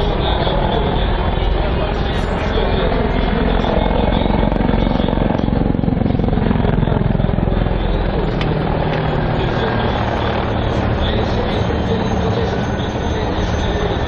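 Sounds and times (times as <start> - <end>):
helicopter rotor chop: 0.0 - 14.0
turbine whine: 0.0 - 14.0.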